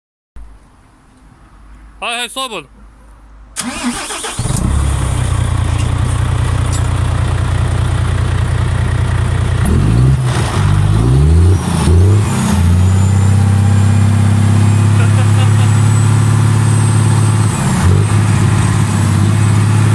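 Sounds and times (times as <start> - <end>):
diesel truck engine idling and revving: 3.6 - 19.9.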